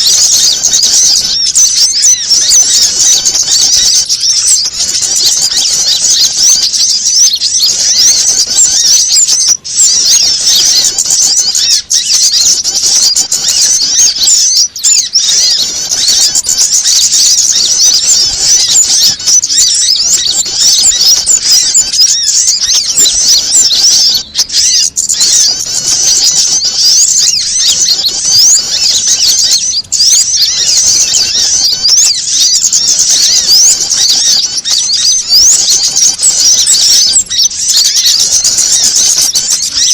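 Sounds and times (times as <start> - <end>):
small birds chirping and chattering: 0.0 - 39.9.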